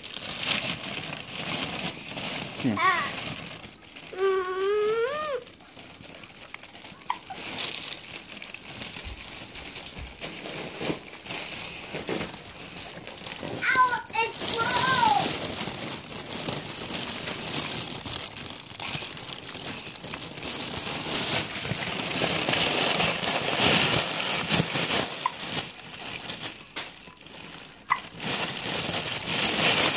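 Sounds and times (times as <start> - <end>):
crinkling and rustling: 0.0 - 29.9.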